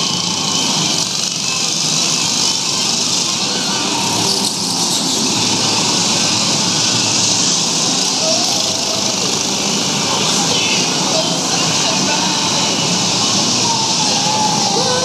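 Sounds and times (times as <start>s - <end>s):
go-kart motors racing: 0.0s - 15.0s.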